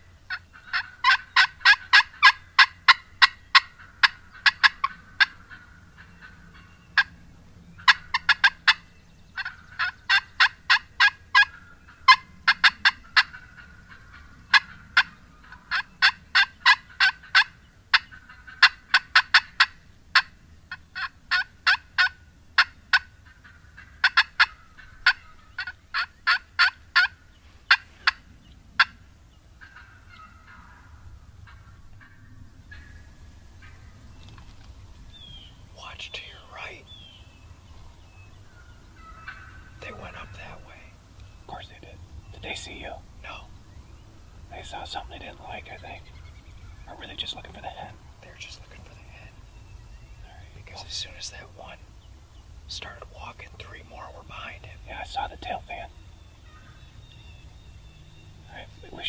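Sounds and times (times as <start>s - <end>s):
turkey hen clucking: 0.0s - 59.0s.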